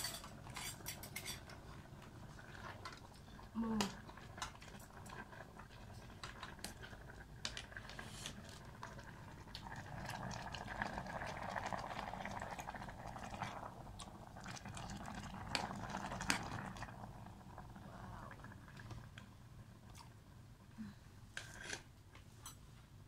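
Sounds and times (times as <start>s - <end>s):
soup bubbling in a pot: 0.0s - 22.0s.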